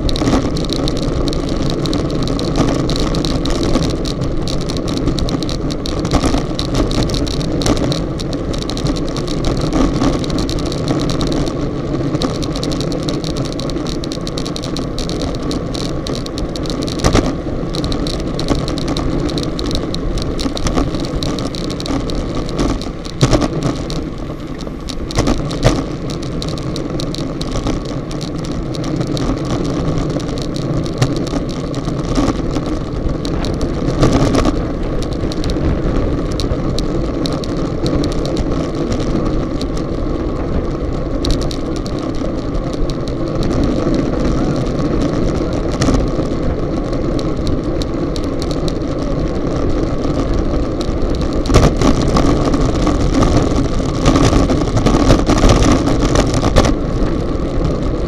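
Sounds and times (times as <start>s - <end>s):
road noise: 0.0s - 58.0s
wind rushing over microphone: 0.0s - 58.0s.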